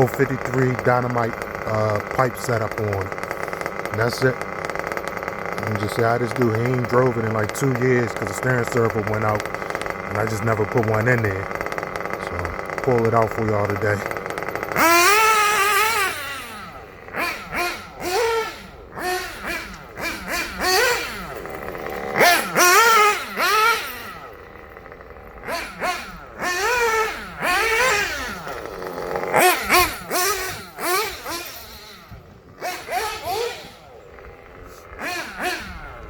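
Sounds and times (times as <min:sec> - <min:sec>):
small nitro engine revving: 0:00.0 - 0:36.0.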